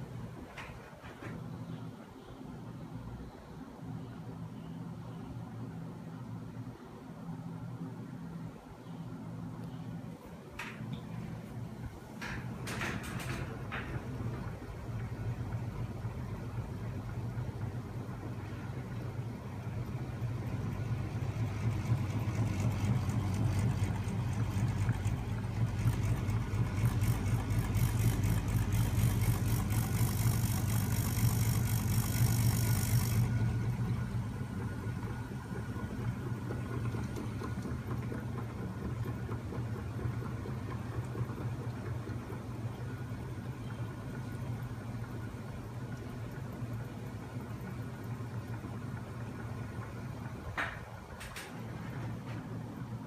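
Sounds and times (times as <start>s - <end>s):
flywheel machine humming: 7.8s - 53.0s.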